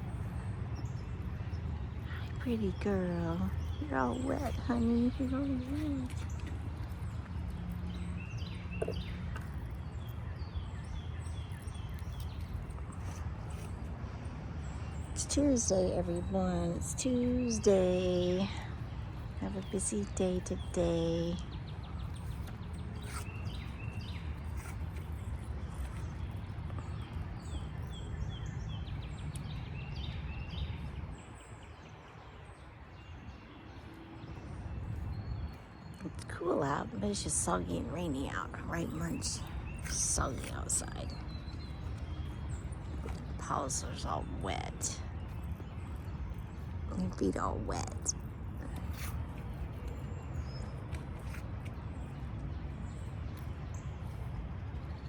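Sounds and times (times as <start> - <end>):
low background rumble: 0.0 - 55.0
small songbirds chirping: 0.0 - 55.0.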